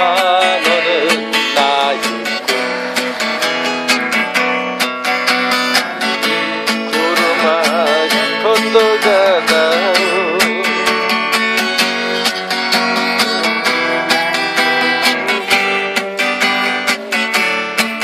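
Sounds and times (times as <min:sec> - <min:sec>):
acoustic guitar strumming: 0:00.0 - 0:18.0
person singing with vibrato: 0:00.0 - 0:18.0.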